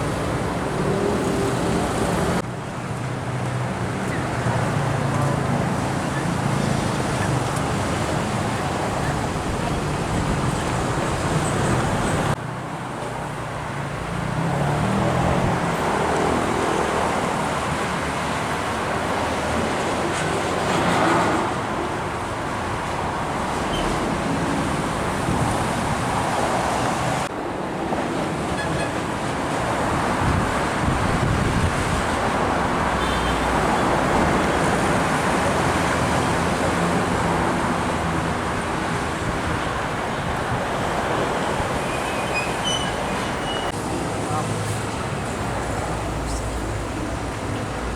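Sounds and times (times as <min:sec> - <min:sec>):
trucks and cars passing: 0:00.0 - 0:47.9.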